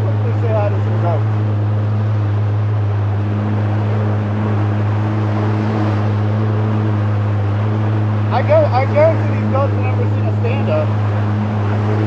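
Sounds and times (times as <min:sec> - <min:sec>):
jet ski engine humming: 0:00.0 - 0:12.0.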